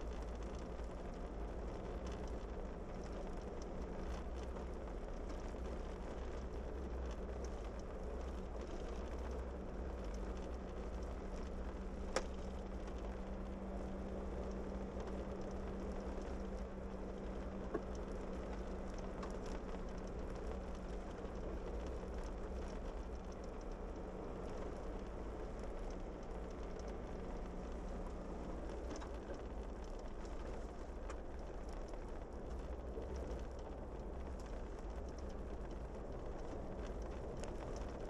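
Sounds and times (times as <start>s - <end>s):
vehicle engine and road rumble: 0.0s - 38.0s.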